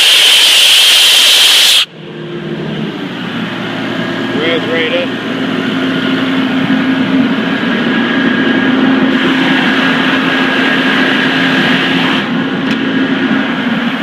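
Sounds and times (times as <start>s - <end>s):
air compressor droning: 0.0s - 14.0s.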